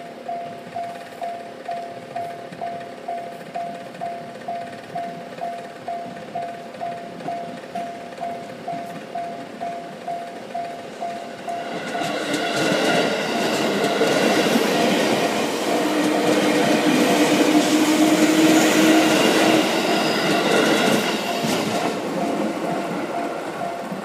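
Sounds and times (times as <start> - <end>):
level crossing warning bell: 0.0 - 24.0
train wheels clattering on rails: 0.0 - 24.0.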